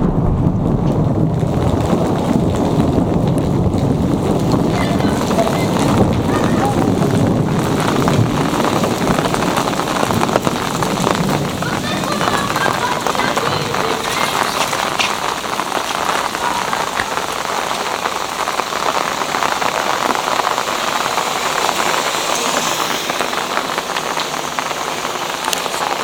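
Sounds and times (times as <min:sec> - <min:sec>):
rain falling on ground: 0:00.0 - 0:26.0.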